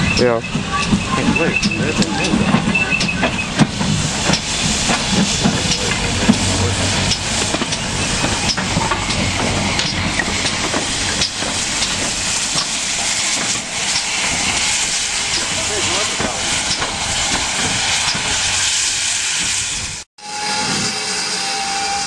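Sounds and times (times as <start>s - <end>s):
locomotive wheels clanking: 0.0s - 20.0s
steam hissing: 0.0s - 22.0s.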